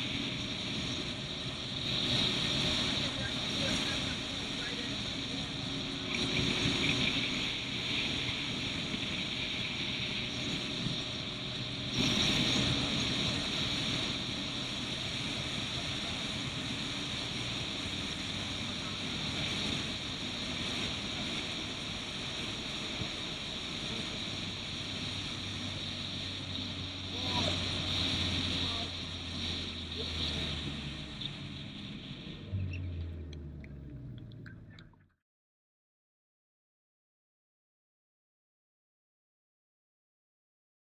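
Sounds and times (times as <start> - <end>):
race car engine running: 0.0 - 35.0
wind noise: 0.0 - 35.0.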